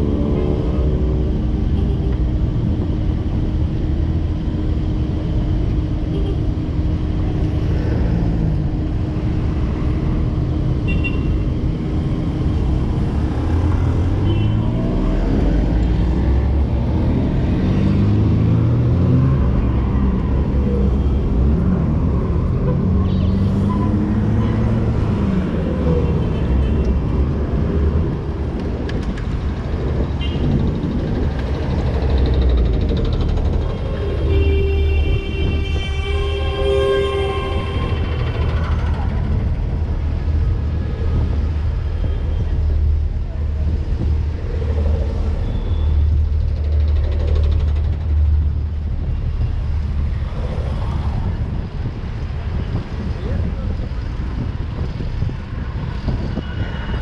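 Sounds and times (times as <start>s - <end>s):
cars passing by: 0.0s - 57.0s
low rumble of traffic: 0.0s - 57.0s.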